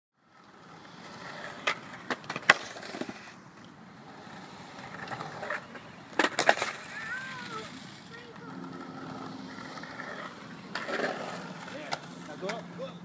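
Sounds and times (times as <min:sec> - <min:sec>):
skateboard wheels rolling on concrete: 0:00.2 - 0:13.0
skateboard clacking: 0:00.4 - 0:12.8.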